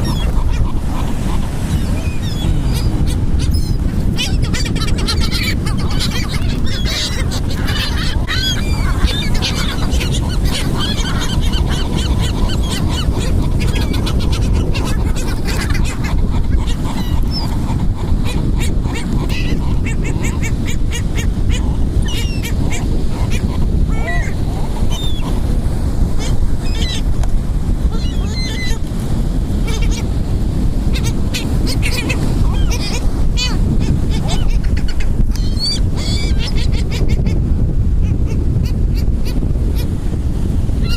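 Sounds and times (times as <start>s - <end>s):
seagulls calling: 0.0s - 25.4s, 26.1s - 27.1s, 27.8s - 28.8s, 29.6s - 30.1s, 30.9s - 37.4s
steady low rumble: 0.0s - 40.9s.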